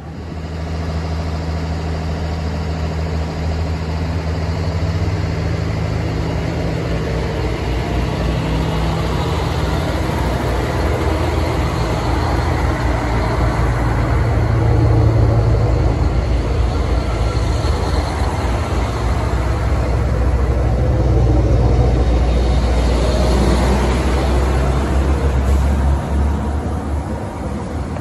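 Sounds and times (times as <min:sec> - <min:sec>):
diesel train engine running: 0:00.0 - 0:28.0.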